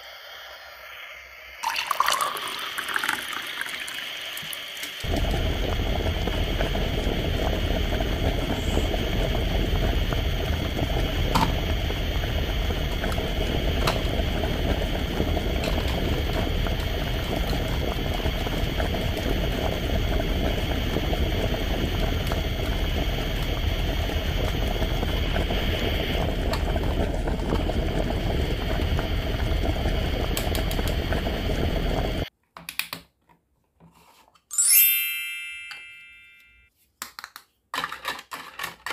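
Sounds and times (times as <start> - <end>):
water boiling in a pot: 0.0 - 32.3.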